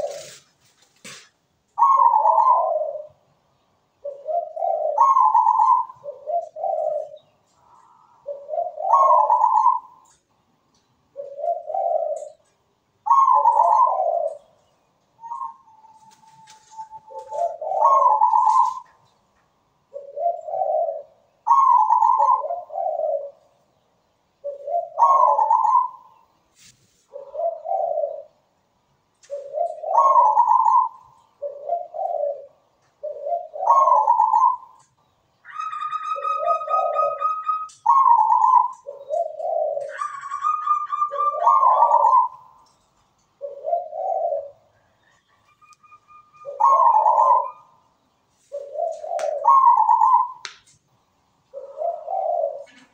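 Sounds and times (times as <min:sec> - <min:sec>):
dove cooing: 0:00.0 - 0:10.2, 0:11.1 - 0:14.6, 0:15.2 - 0:19.0, 0:19.8 - 0:23.6, 0:24.4 - 0:26.2, 0:27.1 - 0:28.6, 0:29.2 - 0:34.8, 0:35.4 - 0:42.8, 0:43.4 - 0:50.5, 0:51.5 - 0:52.9.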